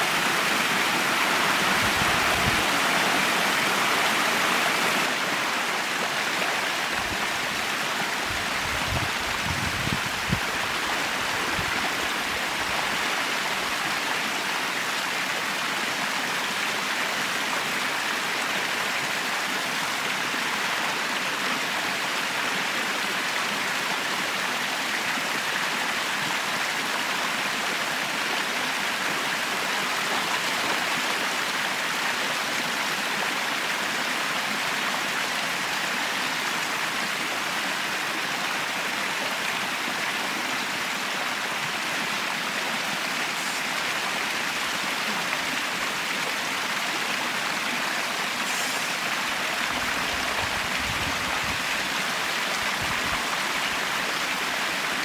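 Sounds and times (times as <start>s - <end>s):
waterfall rushing water: 0.0s - 55.0s.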